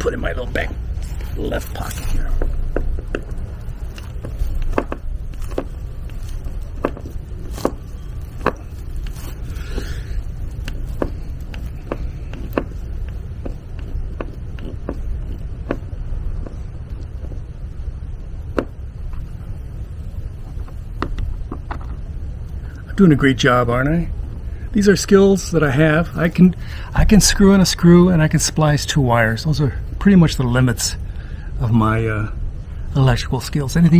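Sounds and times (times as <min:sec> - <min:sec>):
steady low rumble: 0:00.0 - 0:33.9.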